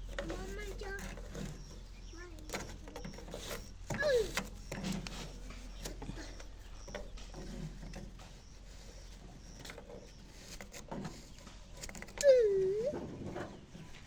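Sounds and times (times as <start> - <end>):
faint knocks and rustling: 0.0 - 14.0.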